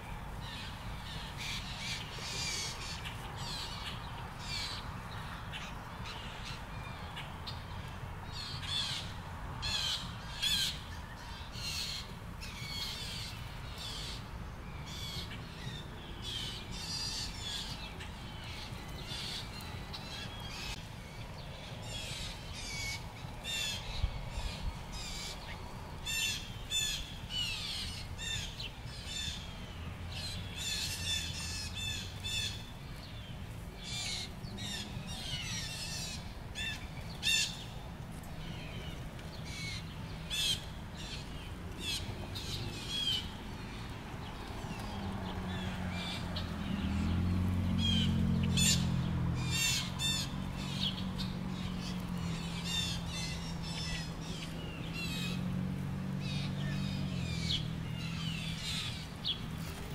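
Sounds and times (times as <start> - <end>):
birds squawking and chirping: 0.0 - 59.9
low engine-like hum: 0.0 - 59.9.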